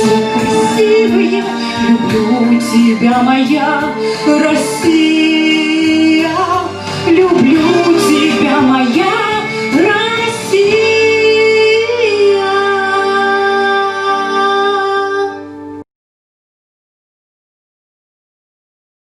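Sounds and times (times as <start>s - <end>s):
woman singing: 0.0s - 15.6s
instrumental accompaniment: 0.0s - 15.8s.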